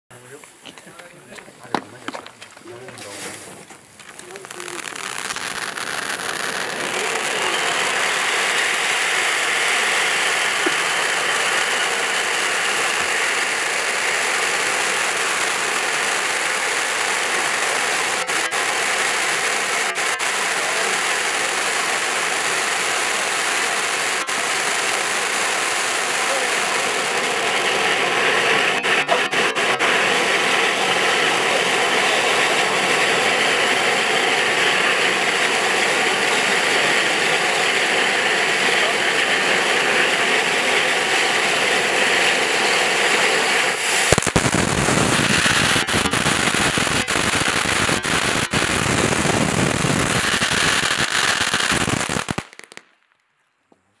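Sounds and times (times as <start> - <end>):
firework fountain hissing: 0.1 - 53.2
sharp firework cracks: 0.4 - 53.4.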